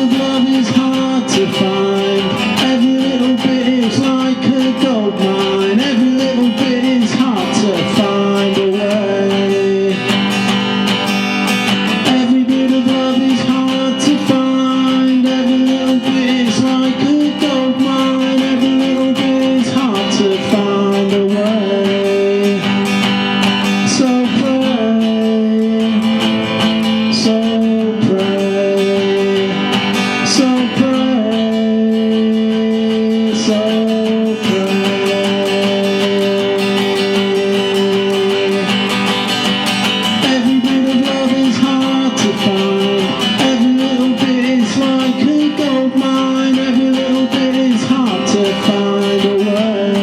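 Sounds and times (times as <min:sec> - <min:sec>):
acoustic guitar chords: 0:00.0 - 0:50.0.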